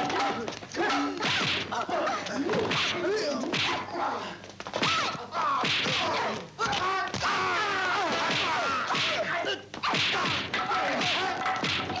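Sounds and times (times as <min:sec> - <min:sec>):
punches and blows whacking: 0:00.0 - 0:01.9, 0:02.5 - 0:04.0, 0:04.7 - 0:07.4, 0:08.0 - 0:12.0
fighters shouting: 0:00.0 - 0:12.0.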